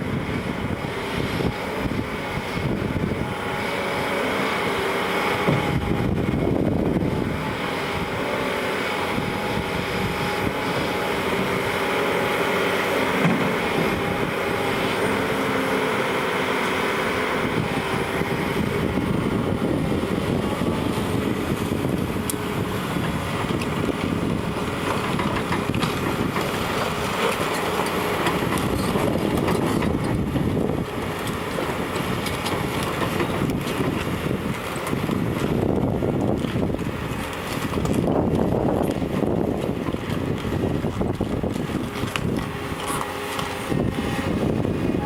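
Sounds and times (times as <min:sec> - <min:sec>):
diesel engine running under load: 0:00.0 - 0:45.0.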